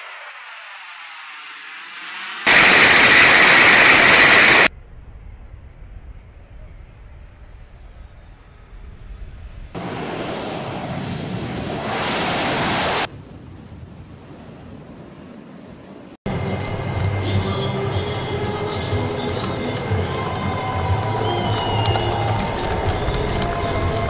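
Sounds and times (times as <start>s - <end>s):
jet roar: 0.0s - 6.6s, 7.3s - 24.0s.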